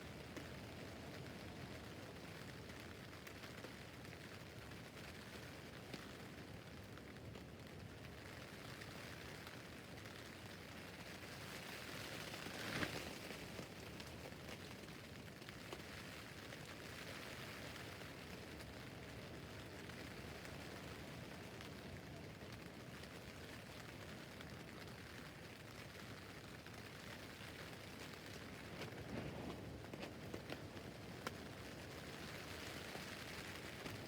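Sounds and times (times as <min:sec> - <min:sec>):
rain on a tent roof: 0:00.0 - 0:34.0.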